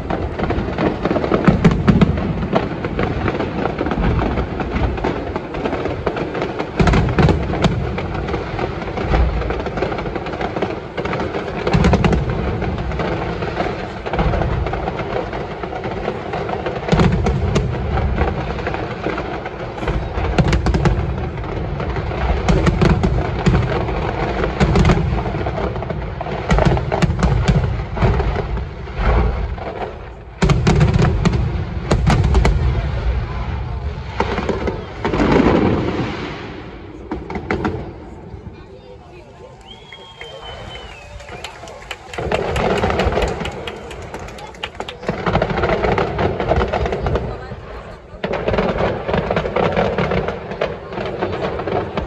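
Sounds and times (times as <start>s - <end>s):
fireworks booming and crackling: 0.0s - 52.0s
loud firework bangs: 0.0s - 52.0s.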